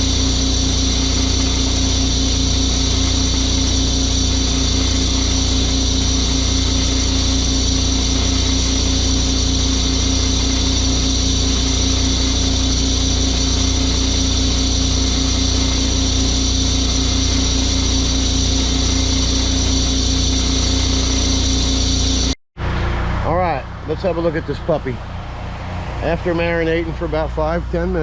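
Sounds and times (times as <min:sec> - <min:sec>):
pressure washer engine running: 0:00.0 - 0:28.0.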